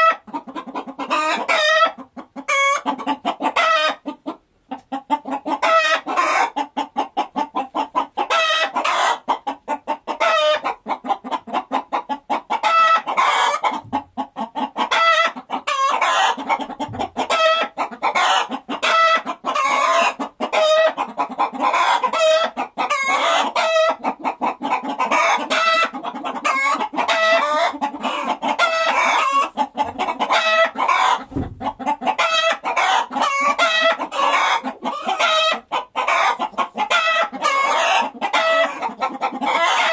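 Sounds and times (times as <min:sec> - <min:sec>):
chickens clucking and squawking: 0:00.0 - 0:39.9.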